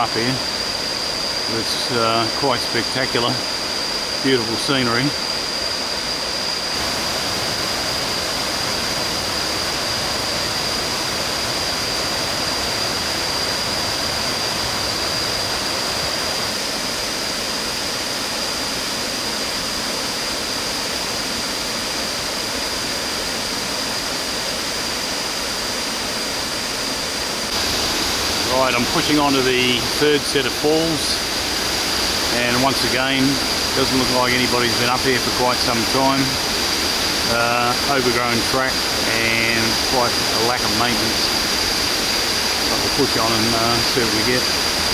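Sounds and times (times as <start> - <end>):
waterfall rushing: 0.0 - 17.6, 21.7 - 44.9
thin high whine: 0.0 - 44.9.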